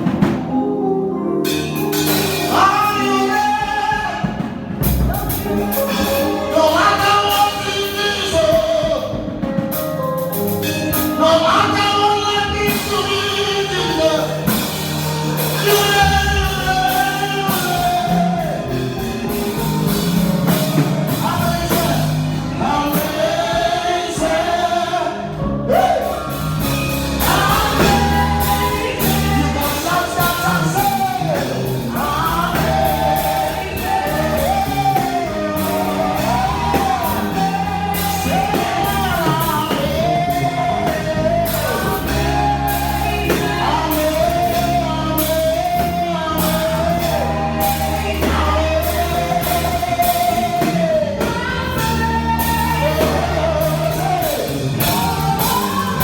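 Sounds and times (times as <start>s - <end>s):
band with drums: 0.0s - 0.7s, 1.4s - 56.0s
person singing gospel: 0.0s - 56.0s
backing voices: 10.9s - 56.0s.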